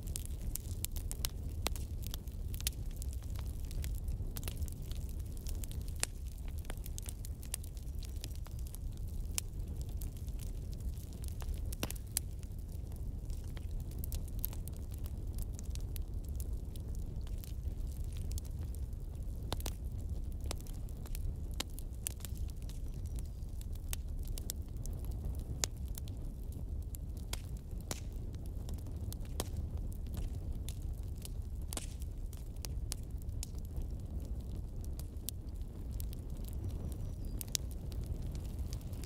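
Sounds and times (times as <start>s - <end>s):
fire popping: 0.0s - 39.0s
wood fire crackling: 0.0s - 39.0s.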